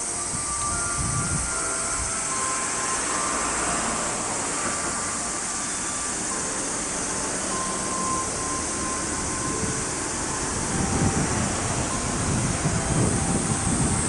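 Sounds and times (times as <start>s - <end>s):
faint loudspeaker warning tones: 0.0s - 14.0s
steady rushing noise: 0.0s - 14.0s.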